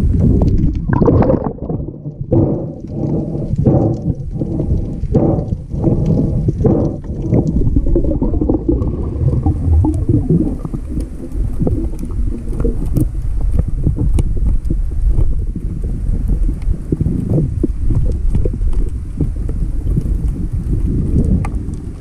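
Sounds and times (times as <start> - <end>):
muffled underwater water rumble: 0.0 - 22.0.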